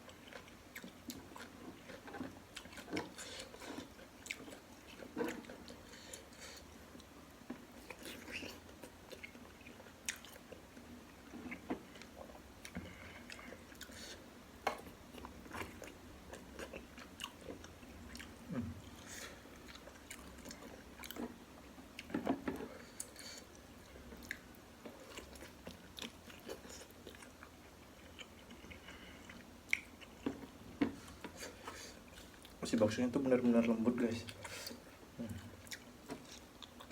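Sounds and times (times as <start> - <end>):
close chewing and slurping: 0.0 - 32.6, 33.6 - 36.9.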